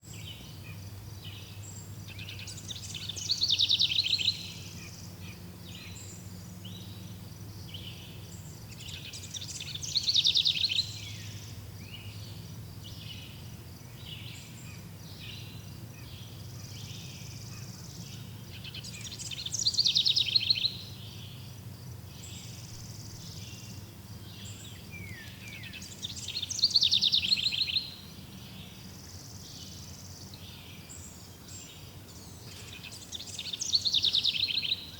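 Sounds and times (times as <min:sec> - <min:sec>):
bird singing rapid falling phrase: 0:00.0 - 0:34.9
birds chirping: 0:00.0 - 0:34.9.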